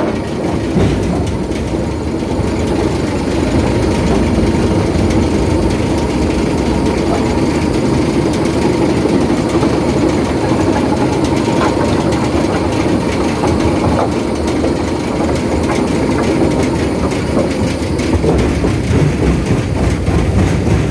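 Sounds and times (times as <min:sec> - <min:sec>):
loud mechanical din of crushers: 0:00.0 - 0:20.9.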